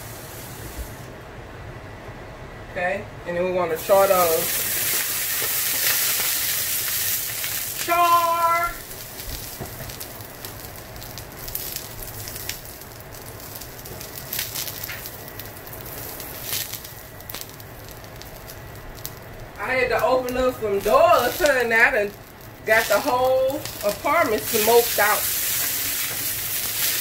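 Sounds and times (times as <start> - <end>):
tomatoes sizzling in a skillet: 3.8 - 27.0
pops and crackles: 4.5 - 27.0.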